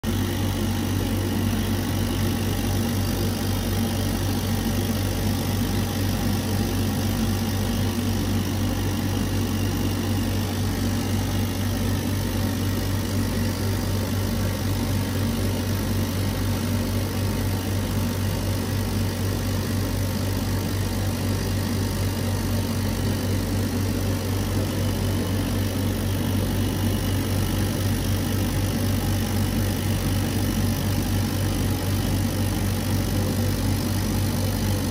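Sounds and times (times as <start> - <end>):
laser cutter whirring: 0.1 - 34.9.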